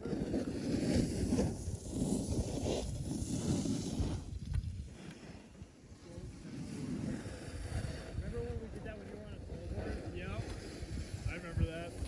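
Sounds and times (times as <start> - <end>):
wind gusting over microphone: 0.0 - 5.0, 5.6 - 12.0.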